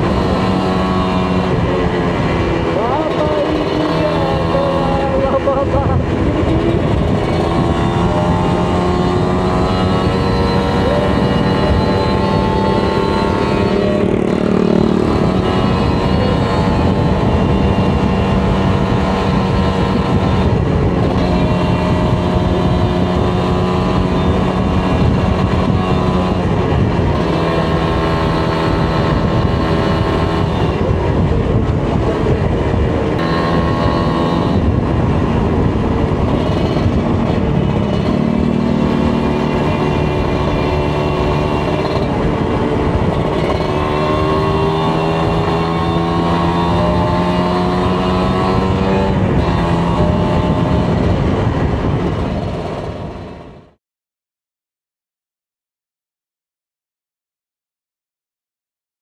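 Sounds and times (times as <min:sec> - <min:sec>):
motorcycle engine revving: 0:00.0 - 0:53.8
steady rushing noise: 0:00.0 - 0:53.8.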